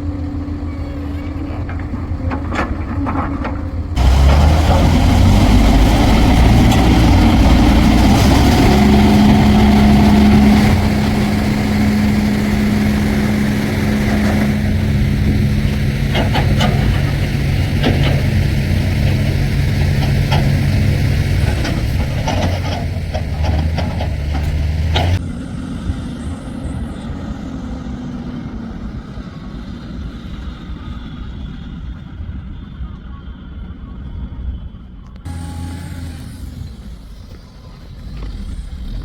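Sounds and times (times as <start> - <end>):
heavy diesel engine running: 0.0 - 32.8, 35.2 - 39.0.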